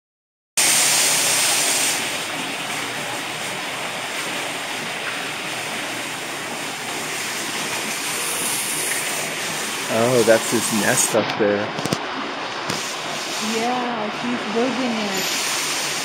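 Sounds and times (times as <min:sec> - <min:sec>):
water splashing down rocks: 0:00.6 - 0:16.0.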